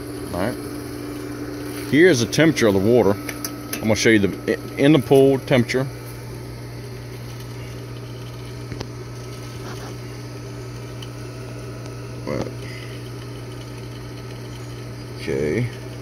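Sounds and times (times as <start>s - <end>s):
pool equipment electric hum: 0.0s - 16.0s.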